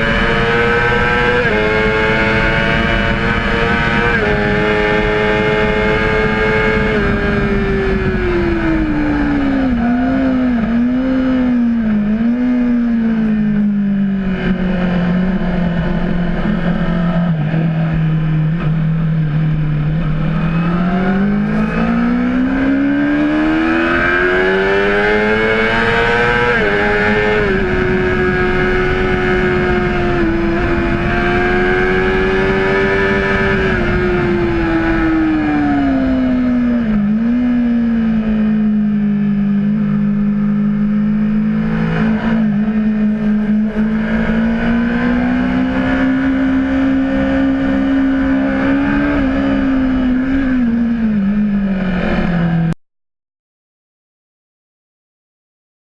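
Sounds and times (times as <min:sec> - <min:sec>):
motorcycle engine revving: 0:00.0 - 0:52.8
wind noise: 0:00.0 - 0:52.8.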